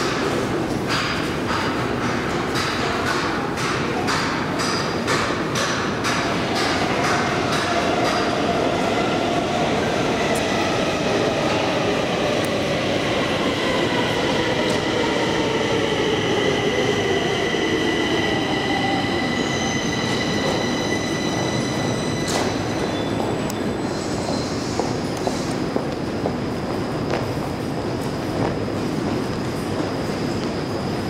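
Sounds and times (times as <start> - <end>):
metro train rumbling: 0.0 - 31.0.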